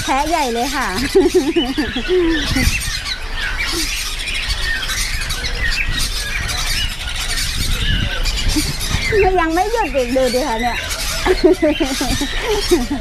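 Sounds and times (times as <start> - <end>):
cockatiels chirping and squawking: 0.0 - 13.0.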